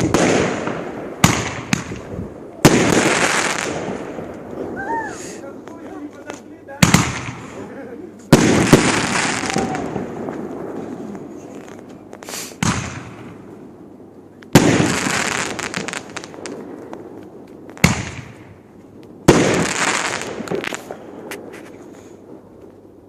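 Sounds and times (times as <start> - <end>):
crackle of bursting stars: 0.0 - 23.0
firework bangs: 0.0 - 23.0.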